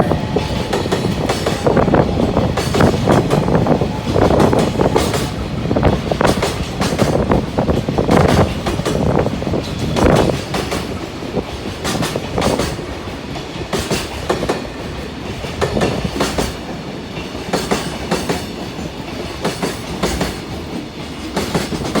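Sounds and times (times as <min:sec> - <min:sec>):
train rumble: 0:00.0 - 0:22.0
train wheels clacking over rail joints: 0:00.0 - 0:22.0.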